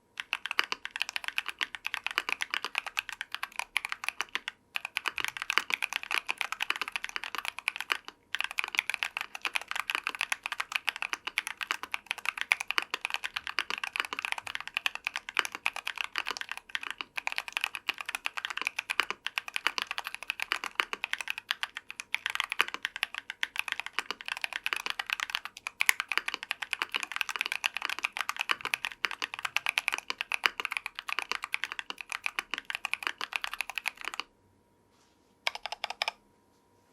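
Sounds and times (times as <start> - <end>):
mechanical keyboard typing: 0.2 - 34.3, 35.4 - 36.2.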